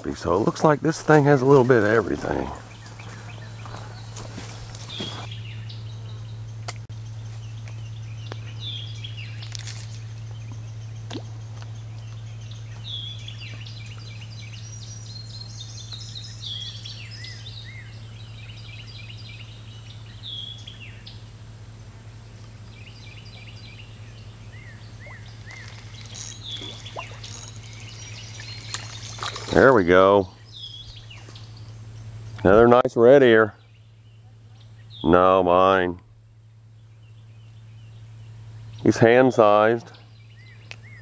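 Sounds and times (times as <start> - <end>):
songbirds chirping and singing: 0.0 - 41.0
steady low hum: 0.0 - 41.0.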